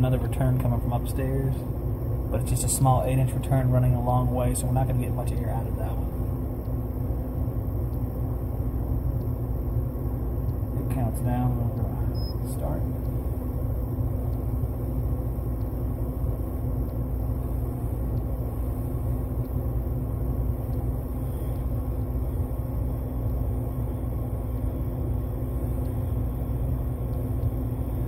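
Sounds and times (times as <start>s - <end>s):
blower hum: 0.0s - 28.0s.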